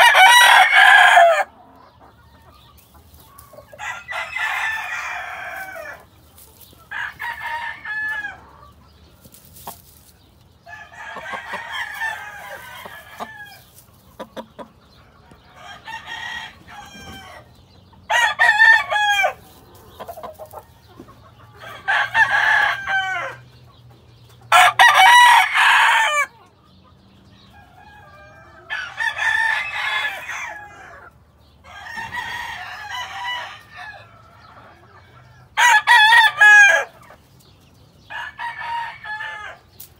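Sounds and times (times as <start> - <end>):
roosters crowing: 0.0 - 26.4, 27.4 - 37.2, 37.8 - 39.9.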